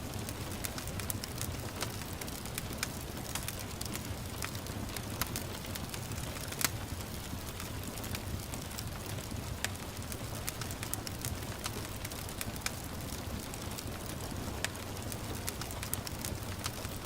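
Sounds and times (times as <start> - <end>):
gentle rain hiss: 0.0 - 17.0
wood fire crackling and popping: 0.0 - 17.0.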